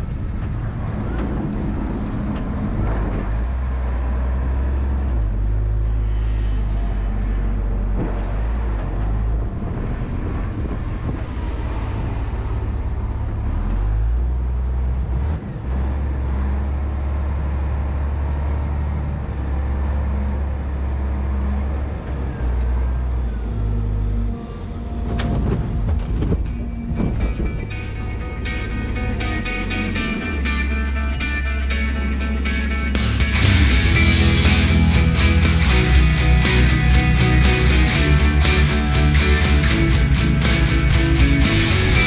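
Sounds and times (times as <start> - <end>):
diesel truck engine droning: 0.0 - 42.0.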